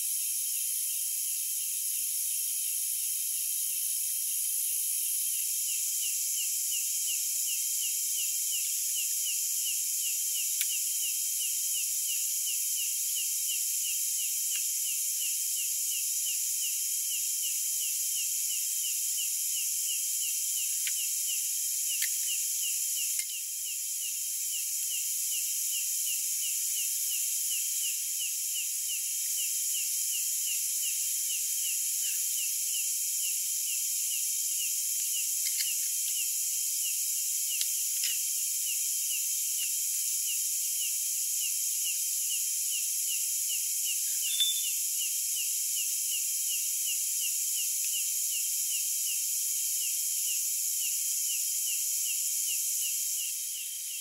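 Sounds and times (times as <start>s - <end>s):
cricket chirping: 0.0s - 54.0s
high hiss of insect song: 0.0s - 54.0s.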